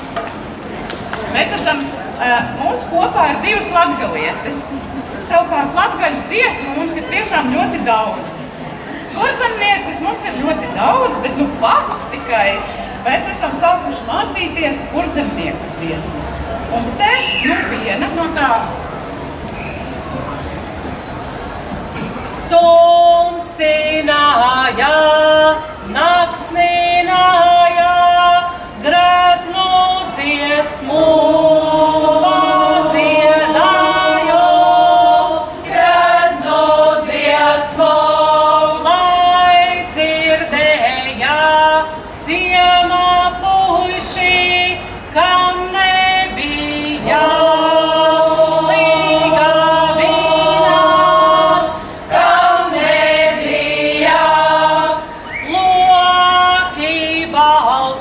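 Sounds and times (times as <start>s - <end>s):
women singing folk song in parts: 1.3s - 16.4s, 22.5s - 58.0s.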